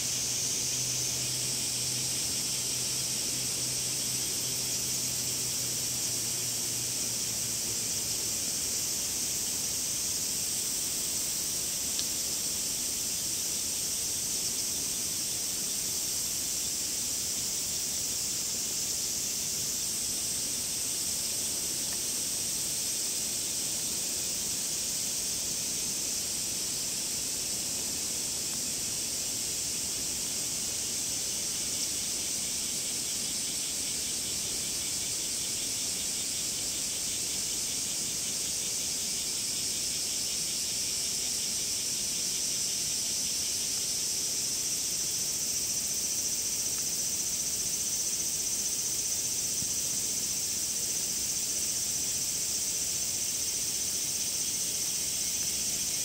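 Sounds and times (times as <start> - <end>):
cicadas calling: 0.0 - 56.0.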